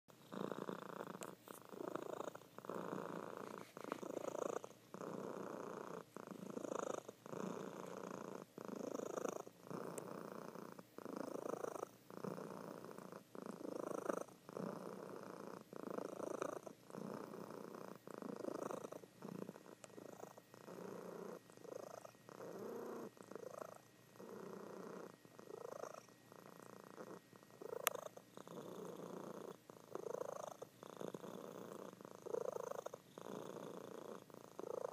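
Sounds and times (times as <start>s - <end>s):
cat purring: 0.1s - 34.9s.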